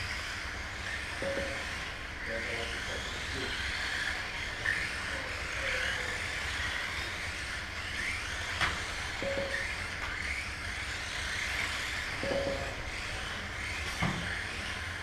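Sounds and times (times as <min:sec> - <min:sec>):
toy cars motors whining: 0:00.0 - 0:15.0.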